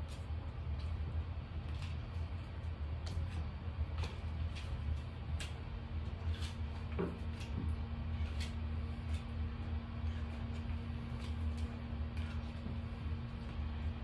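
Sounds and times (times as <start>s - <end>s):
low room hum: 0.0s - 14.0s
steady higher hum: 0.0s - 14.0s.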